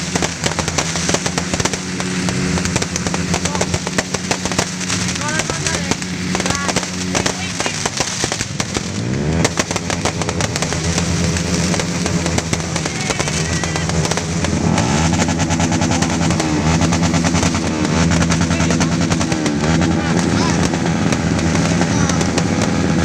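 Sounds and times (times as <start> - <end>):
sharp crackles and clicks: 0.0 - 23.0.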